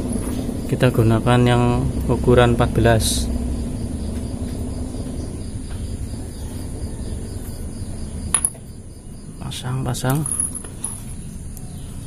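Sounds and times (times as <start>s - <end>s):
insect chirring: 0.0s - 12.0s
low background rumble: 0.0s - 12.0s.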